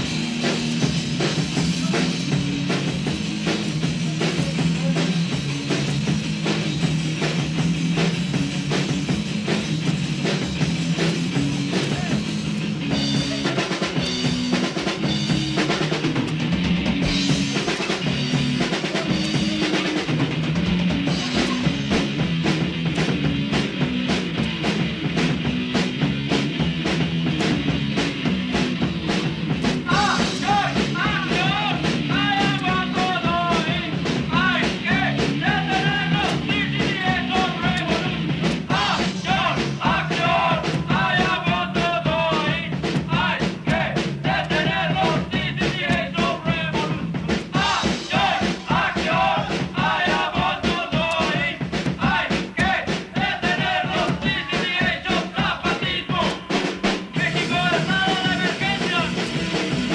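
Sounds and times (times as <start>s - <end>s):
drum kit hits: 0.0s - 59.9s
punk rock band playing: 0.0s - 59.9s.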